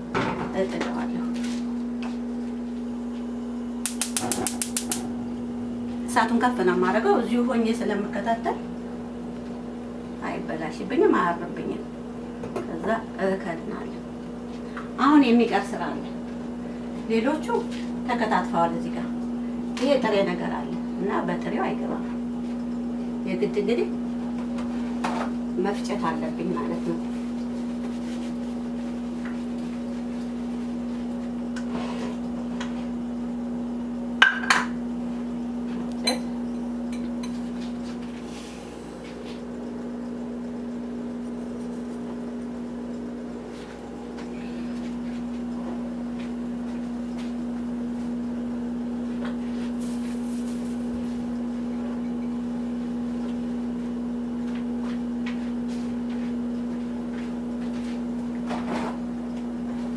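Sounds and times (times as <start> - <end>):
kitchen appliance humming: 0.0 - 59.9.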